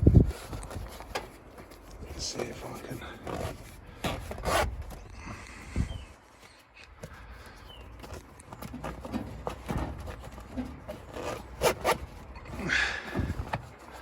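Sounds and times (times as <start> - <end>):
fabric rubbing and scraping: 0.0 - 5.4, 7.9 - 14.0.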